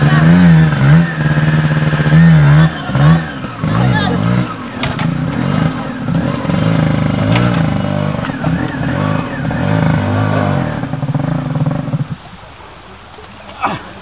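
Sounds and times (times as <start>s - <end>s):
dirt bike engine revving: 0.0s - 12.3s.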